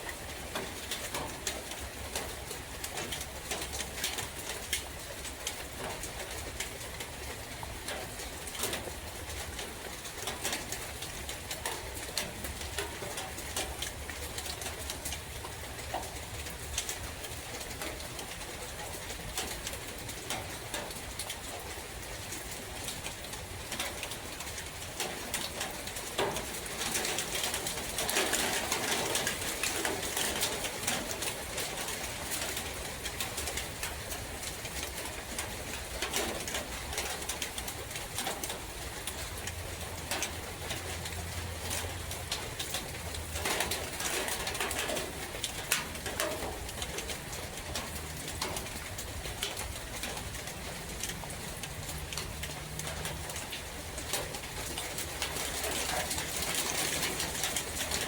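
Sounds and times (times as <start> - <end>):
rain pattering and dripping: 0.0 - 58.0.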